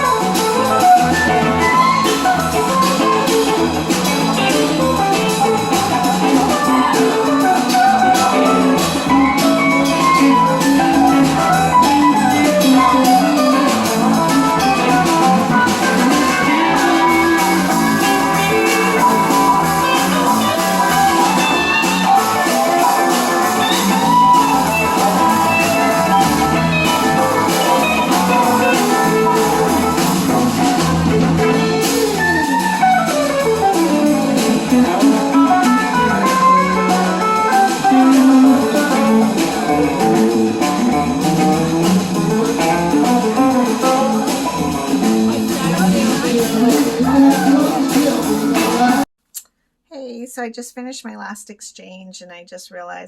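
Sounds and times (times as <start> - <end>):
live band with guitar and drums: 0.0 - 49.1.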